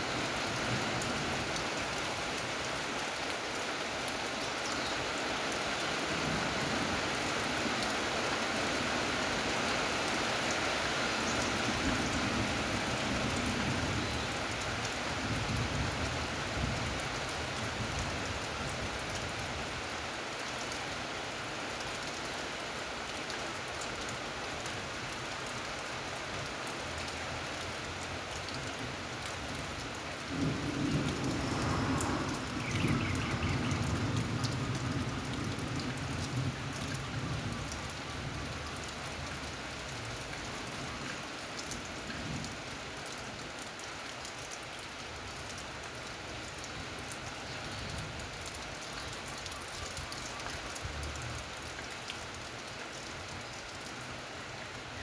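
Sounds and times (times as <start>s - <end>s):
rain on metal roof: 0.0s - 55.0s.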